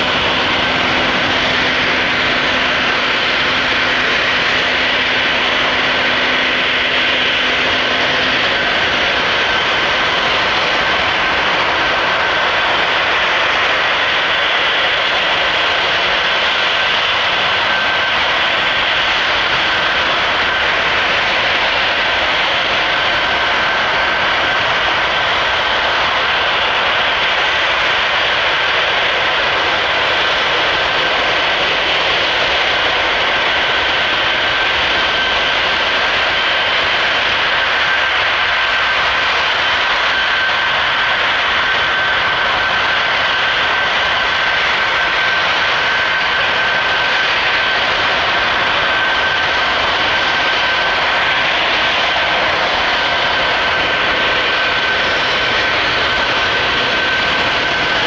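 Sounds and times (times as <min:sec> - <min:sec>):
jet engines running with high whine: 0:00.0 - 0:58.0.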